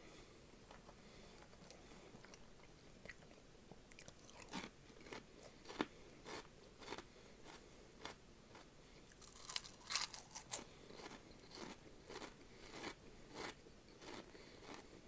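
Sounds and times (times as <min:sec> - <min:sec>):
chewing: 0:00.7 - 0:15.0
snacks crunching: 0:00.7 - 0:15.0.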